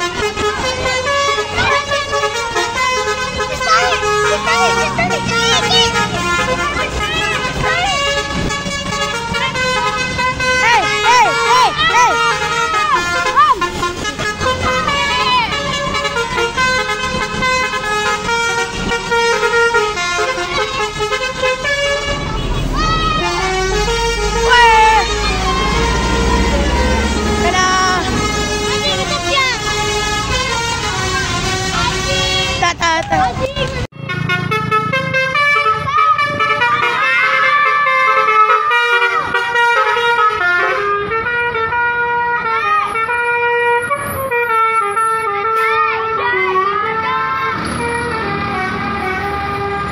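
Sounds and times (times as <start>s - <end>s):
multi-trumpet bus horn playing a tune: 0.0s - 33.0s, 33.9s - 49.9s.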